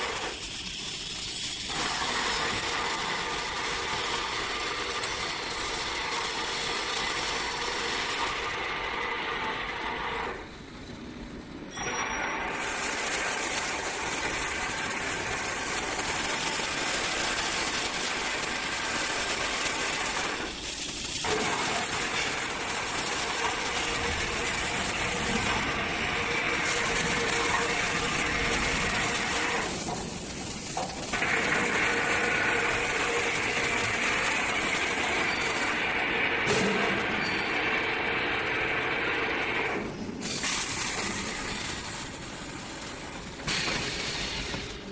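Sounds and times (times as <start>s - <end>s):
hiss: 0.0s - 10.6s, 12.4s - 44.9s
machinery running: 0.0s - 44.9s.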